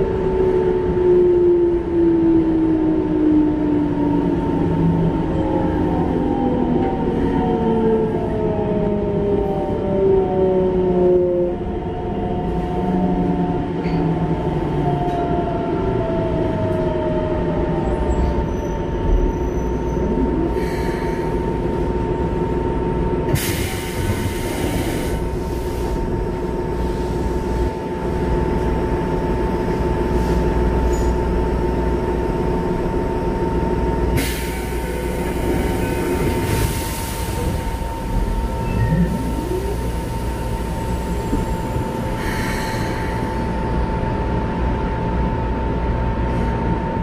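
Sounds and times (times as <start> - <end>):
wheel and rail rumble: 0.0 - 47.0.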